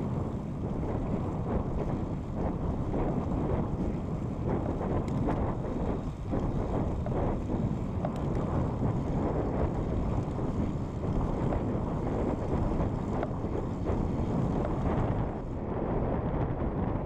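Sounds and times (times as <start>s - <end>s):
tyres rolling on asphalt: 0.0s - 16.6s
wind buffeting microphone: 0.0s - 17.0s.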